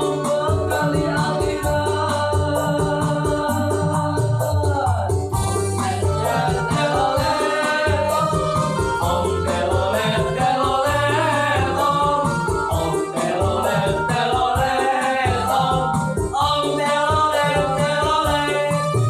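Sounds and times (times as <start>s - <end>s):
backing music with beat and bass: 0.0s - 19.0s
person singing: 0.0s - 19.0s.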